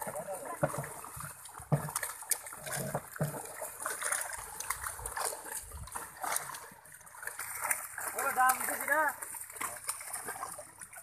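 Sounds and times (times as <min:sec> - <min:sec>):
fish splashing in shallow water: 0:00.0 - 0:11.0.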